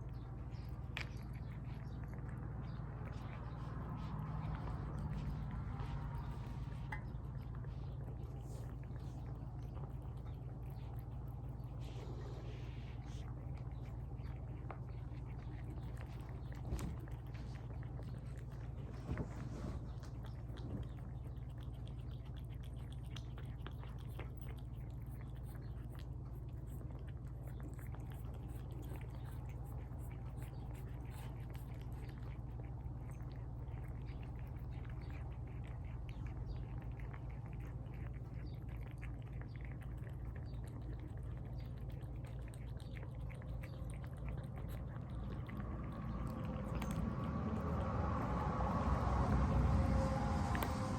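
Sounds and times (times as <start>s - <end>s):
cats chewing and licking: 0.0s - 50.9s
steady low hum: 0.0s - 50.9s.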